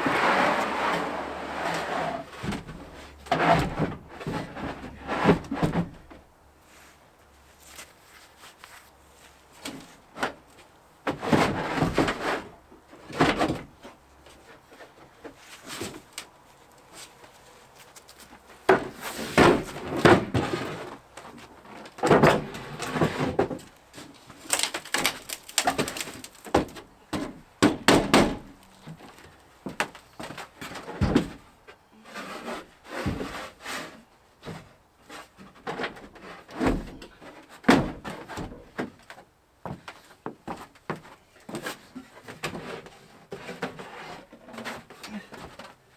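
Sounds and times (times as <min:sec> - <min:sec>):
knocks bumps and scraping: 0:00.0 - 0:06.3, 0:07.5 - 0:45.8.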